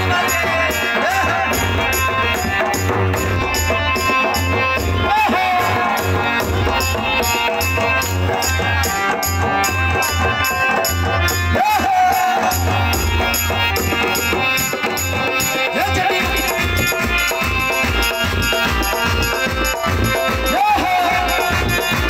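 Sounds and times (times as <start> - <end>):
man singing: 0.0 - 13.4, 14.3 - 22.0
drum beat: 0.0 - 22.0.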